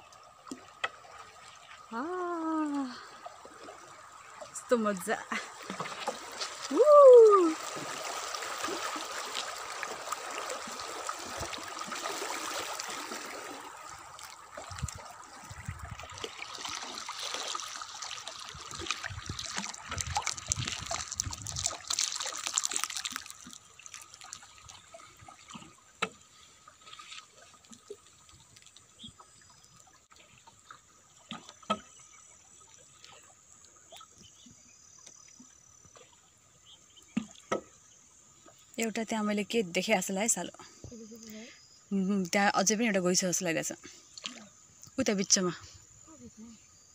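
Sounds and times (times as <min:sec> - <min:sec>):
water lapping: 0:00.0 - 0:35.3, 0:38.3 - 0:46.7
river water rushing along canoe: 0:00.0 - 0:39.0.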